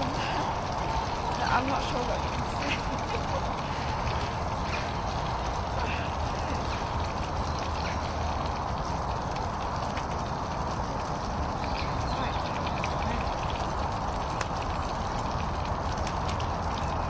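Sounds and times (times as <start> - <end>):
camping stove running: 0.0 - 17.0
food frying crackles: 0.0 - 17.0.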